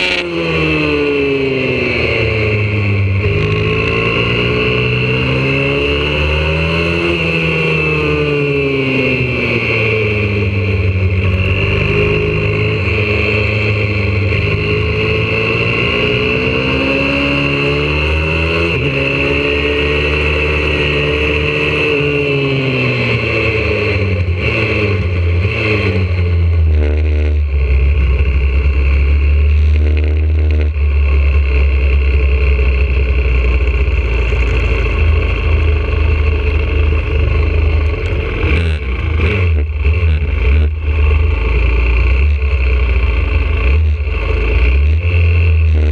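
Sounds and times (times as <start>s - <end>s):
pit bike engine: 0.0s - 45.9s.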